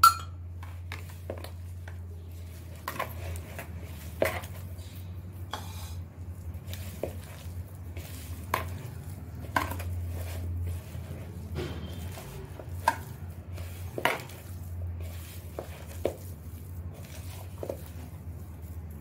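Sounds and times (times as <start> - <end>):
hand squishing batter: 0.4 - 19.0.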